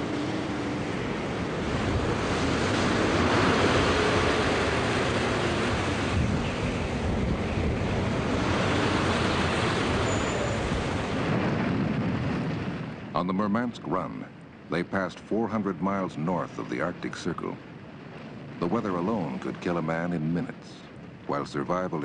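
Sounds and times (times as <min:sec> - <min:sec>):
heavy waves surging: 0:00.0 - 0:22.0
wavering wind howl: 0:00.0 - 0:22.0
wind blowing hard: 0:00.0 - 0:22.0.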